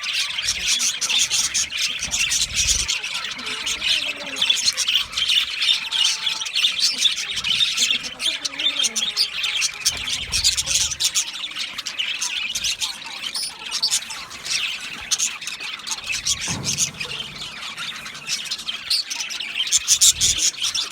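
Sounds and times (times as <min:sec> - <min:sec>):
budgerigars chattering: 0:00.0 - 0:20.9.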